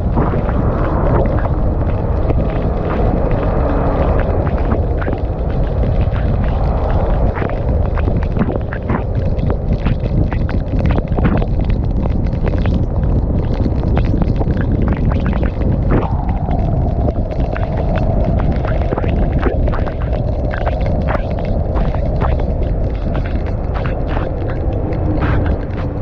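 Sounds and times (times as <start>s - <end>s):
wind buffeting microphone: 0.0s - 26.0s
sharp ticks and knocks: 0.2s - 26.0s.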